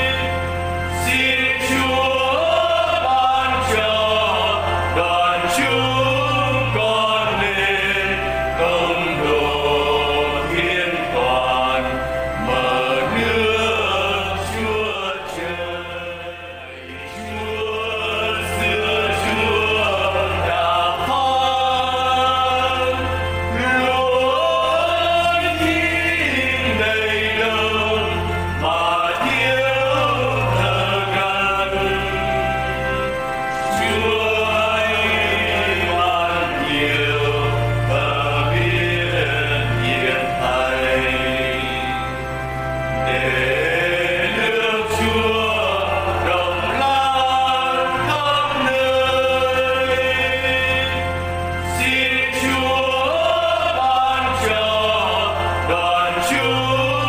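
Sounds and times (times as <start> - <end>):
hymn singing: 0.0 - 57.0
low bass notes: 0.0 - 57.0.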